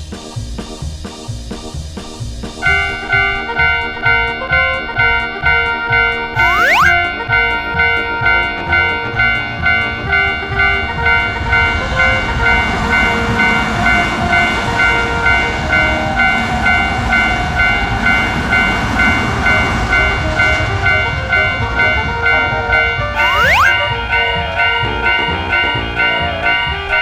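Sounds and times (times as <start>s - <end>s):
train rumbling past: 0.0s - 27.0s
crossing warning bell ringing: 2.6s - 27.0s.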